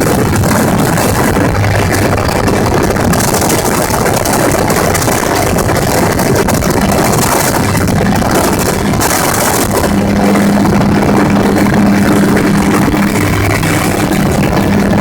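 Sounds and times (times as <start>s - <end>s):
gyrocopter engine and propeller drone: 0.0s - 15.0s
wind noise: 0.0s - 15.0s.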